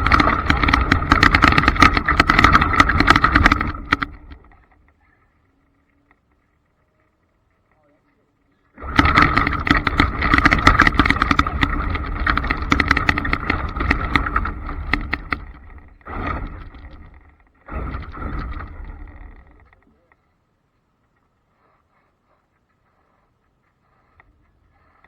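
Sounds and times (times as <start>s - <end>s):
tyres crackling on loose ground: 0.0s - 21.4s.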